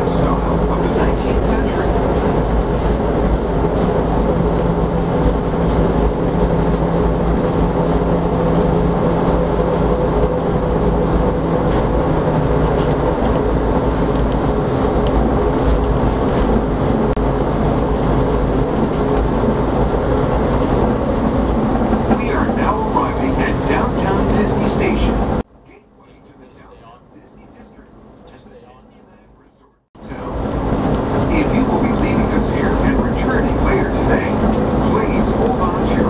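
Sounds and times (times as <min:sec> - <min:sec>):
monorail tyres rumbling: 0:00.0 - 0:29.1, 0:30.0 - 0:36.0
steady humming tones: 0:00.0 - 0:36.0.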